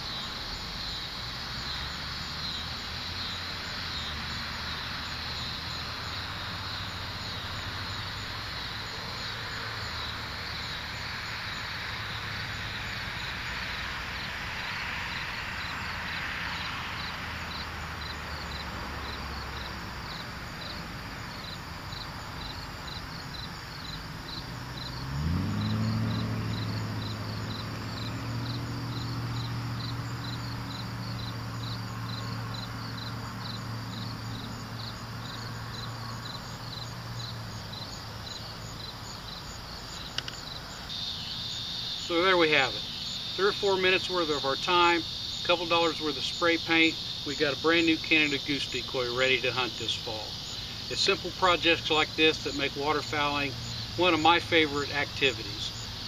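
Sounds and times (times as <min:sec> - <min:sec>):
engine running low: 0:00.0 - 0:41.4, 0:45.4 - 0:56.0
crickets chirping: 0:00.0 - 0:56.0.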